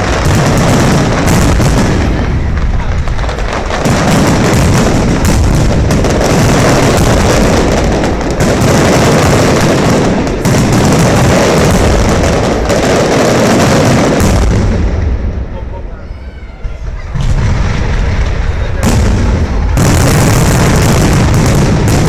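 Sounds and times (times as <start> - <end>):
fireworks barrage: 0.0 - 22.0.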